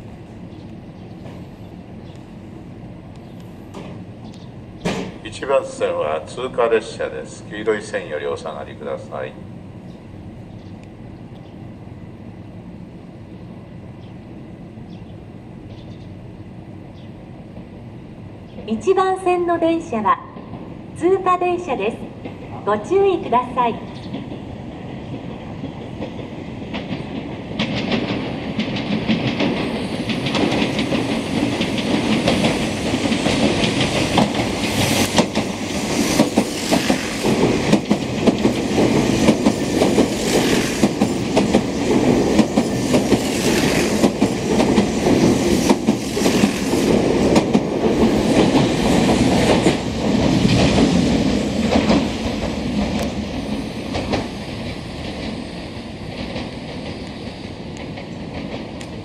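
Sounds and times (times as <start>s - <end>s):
electric train passing: 0.0s - 59.0s.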